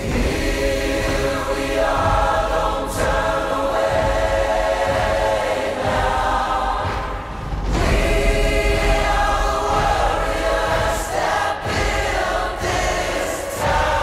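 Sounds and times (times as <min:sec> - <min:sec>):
choir holding sustained notes: 0:00.0 - 0:14.0.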